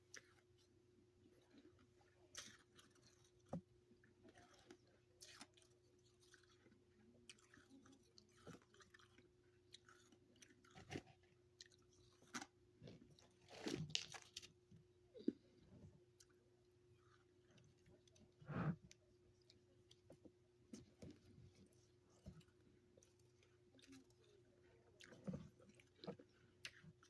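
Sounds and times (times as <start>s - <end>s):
chewing crunchy frost: 0.0s - 27.0s.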